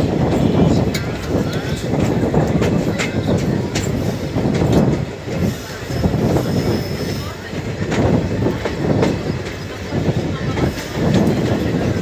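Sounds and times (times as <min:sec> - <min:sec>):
rail-joint clacks: 0:00.0 - 0:12.0
train wheels rumbling on rail: 0:00.0 - 0:12.0.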